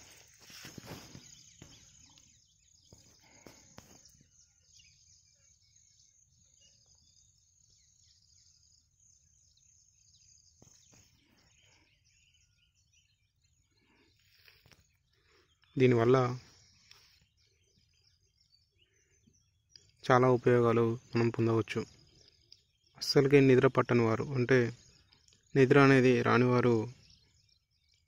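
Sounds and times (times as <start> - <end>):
faint bird chirps: 0.0 - 28.0.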